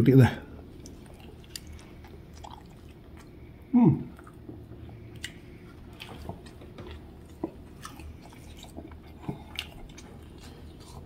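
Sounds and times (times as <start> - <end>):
person chewing food: 0.6 - 11.0.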